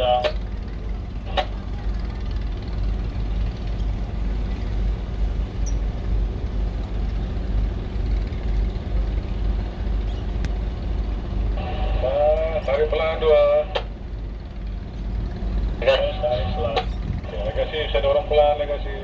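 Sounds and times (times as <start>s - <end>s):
boat diesel engine rumbling: 0.0s - 19.0s.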